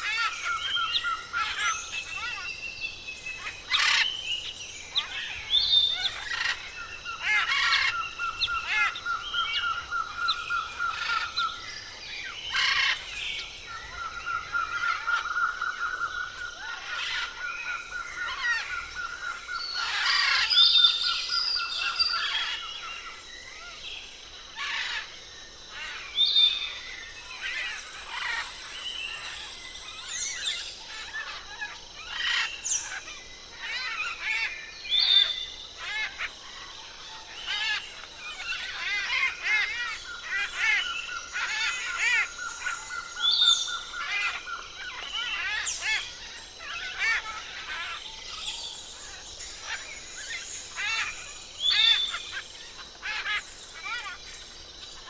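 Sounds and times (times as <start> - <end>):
forest birds calling: 0.0 - 55.0.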